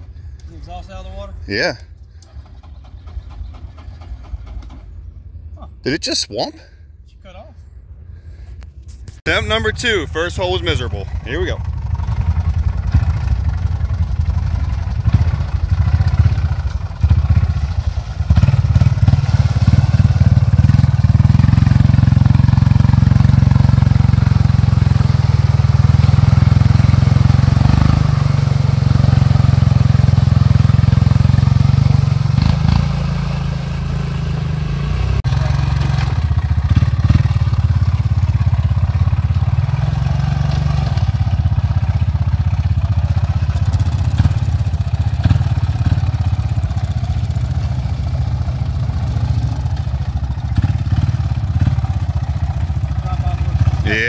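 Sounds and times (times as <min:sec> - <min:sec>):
atv engine revving high: 0:09.4 - 0:54.0.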